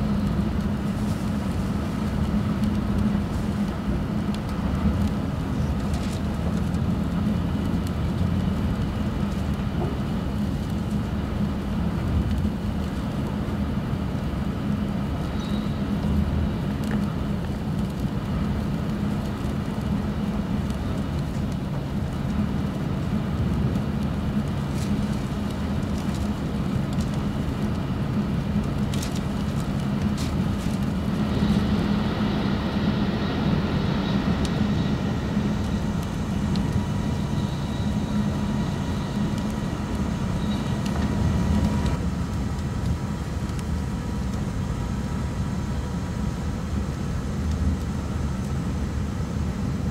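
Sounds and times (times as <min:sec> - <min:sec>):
train rumble and hiss: 0:00.0 - 0:49.9.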